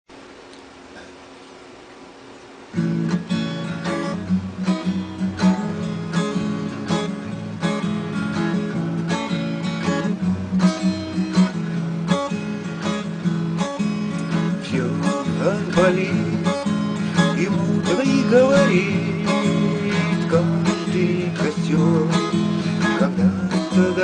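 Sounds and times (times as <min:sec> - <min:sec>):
faint background hiss: 0:00.1 - 0:24.0
acoustic guitar strumming chords: 0:02.7 - 0:24.0.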